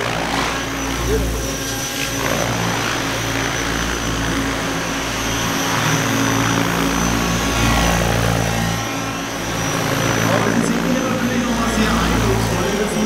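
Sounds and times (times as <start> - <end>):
electric motor whining: 0.0 - 13.0
helicopter rotor beating: 0.0 - 13.0.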